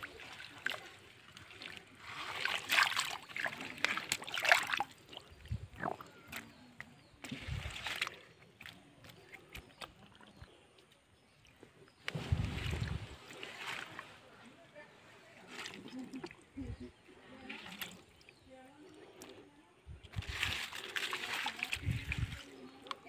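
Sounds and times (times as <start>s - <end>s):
water splashing in shallow mud: 0.0s - 14.2s, 15.3s - 23.0s.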